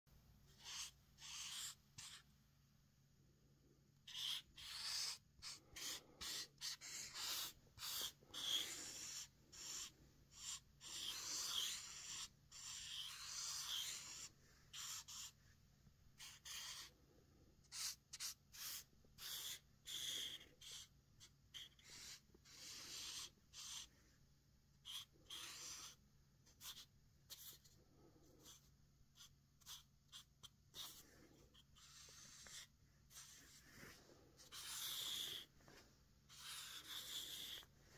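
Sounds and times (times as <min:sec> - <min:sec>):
marker scratching on paper: 0:00.5 - 0:02.3, 0:04.0 - 0:17.0, 0:17.6 - 0:24.0, 0:24.8 - 0:37.9.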